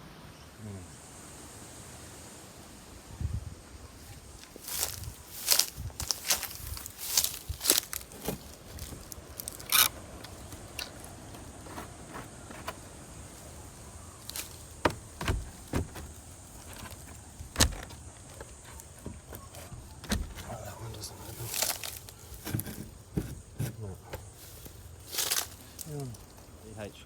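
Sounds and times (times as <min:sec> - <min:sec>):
faint steady hiss: 0:00.0 - 0:27.0
knocks and scrapes of handling things: 0:04.4 - 0:26.5.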